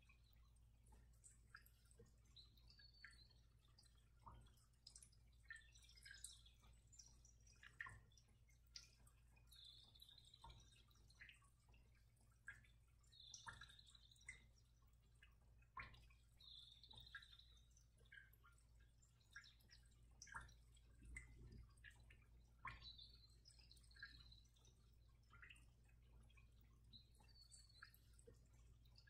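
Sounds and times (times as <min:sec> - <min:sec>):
faint ticks: 0:00.0 - 0:29.0
low steady hum: 0:00.0 - 0:29.0.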